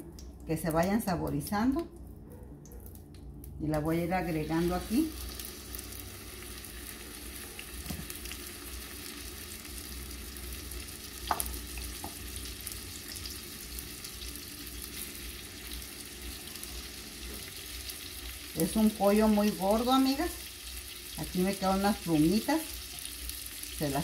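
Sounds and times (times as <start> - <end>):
chicken sizzling in frying pan: 4.2 - 24.0.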